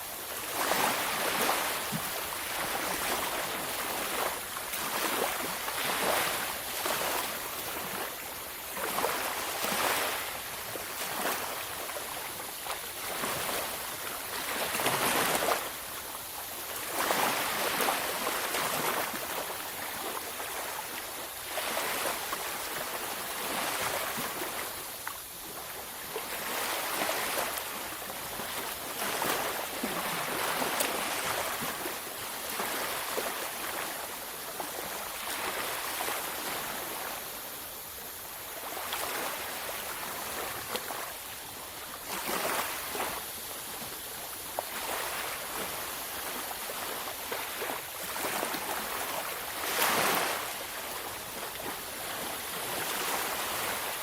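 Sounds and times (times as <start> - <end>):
ocean waves washing onto beach: 0.0 - 54.0.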